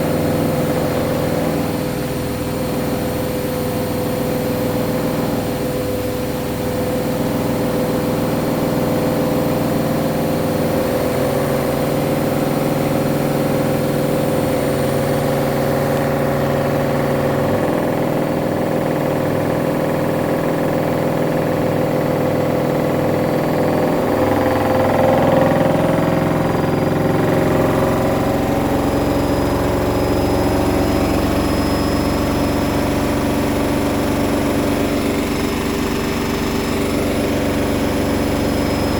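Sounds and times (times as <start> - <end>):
washing machine spinning whine: 0.0 - 38.9.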